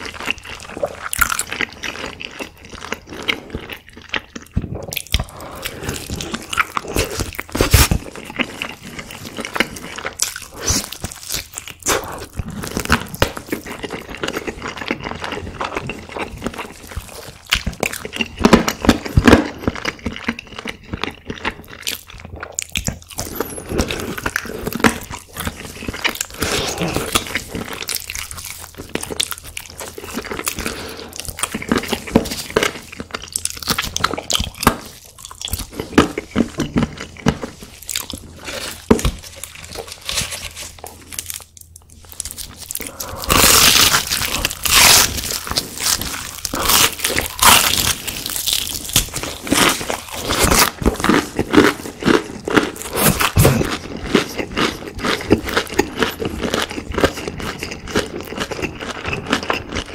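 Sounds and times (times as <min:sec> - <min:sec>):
crunching bites of food: 0:00.0 - 0:59.9
wet chewing: 0:00.0 - 0:59.9.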